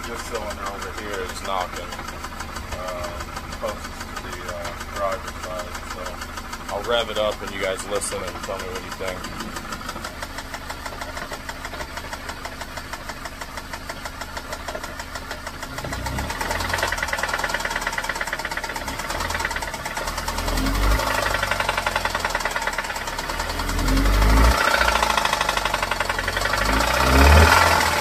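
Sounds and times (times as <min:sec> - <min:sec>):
car engine revving: 0:00.0 - 0:28.0
engine knocking: 0:00.0 - 0:28.0.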